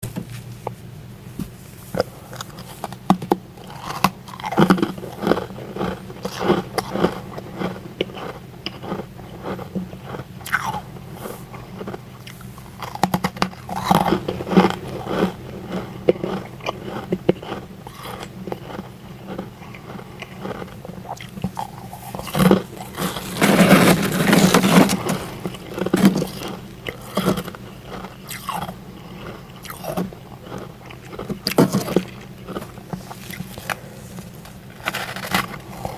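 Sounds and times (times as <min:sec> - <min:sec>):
steady low hum: 0:00.0 - 0:35.9
crunching frost while chewing: 0:01.6 - 0:35.9.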